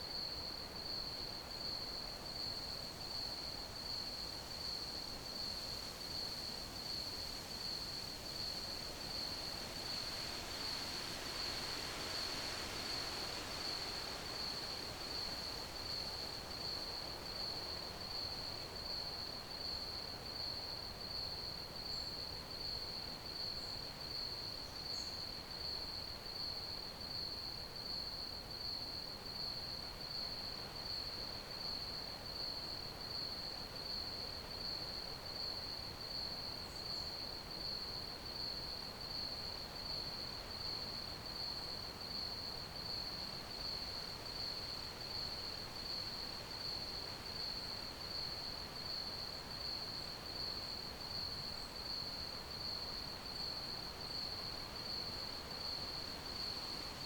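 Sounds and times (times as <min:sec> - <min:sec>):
crickets chirping: 0:00.0 - 0:57.0
soft steady hiss: 0:00.0 - 0:57.0.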